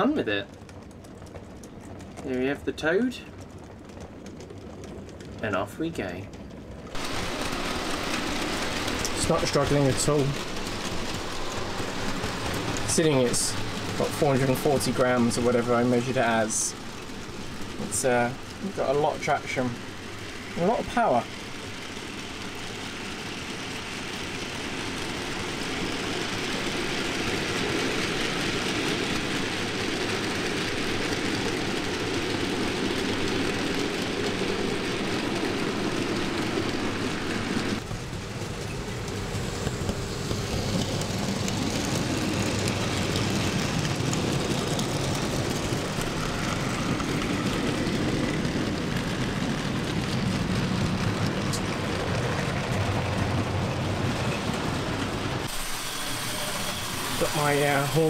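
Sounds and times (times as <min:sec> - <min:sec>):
wheels rolling on track: 0:00.0 - 0:58.0.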